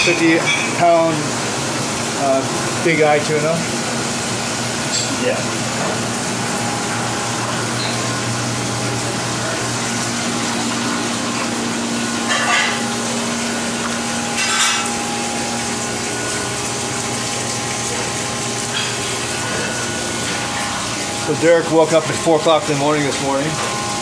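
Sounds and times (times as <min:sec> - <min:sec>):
kitchen machinery hum: 0:00.0 - 0:24.0.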